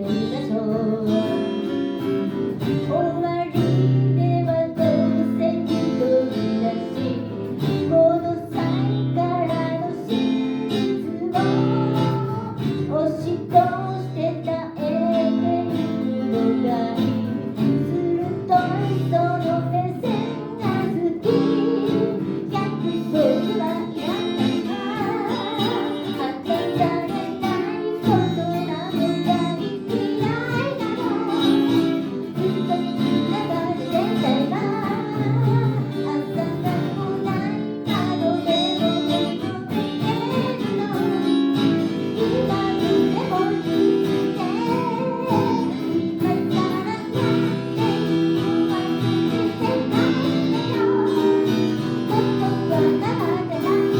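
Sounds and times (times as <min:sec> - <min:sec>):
guitar: 0:00.0 - 0:53.9
person singing: 0:00.0 - 0:53.9.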